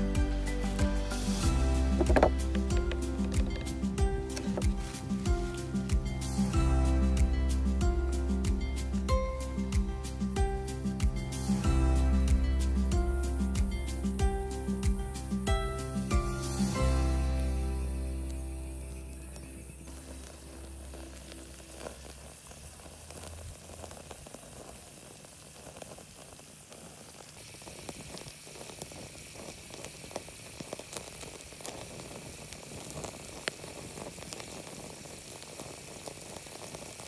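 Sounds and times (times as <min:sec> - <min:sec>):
eggs sizzling with pops: 0:00.0 - 0:37.0
wood fire: 0:00.0 - 0:37.0.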